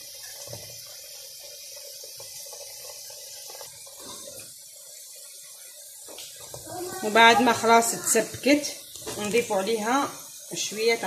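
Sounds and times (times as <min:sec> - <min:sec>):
stew simmering in a pot: 0:00.0 - 0:11.0.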